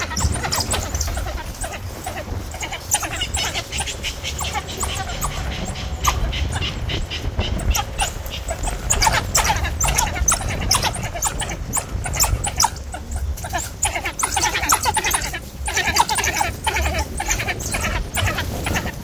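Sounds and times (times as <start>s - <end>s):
wild dogs twittering: 0.0s - 19.0s.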